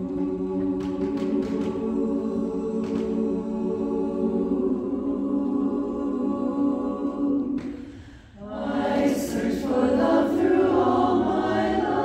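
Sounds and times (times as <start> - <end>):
women's chorus singing a cappella: 0.0 - 12.0.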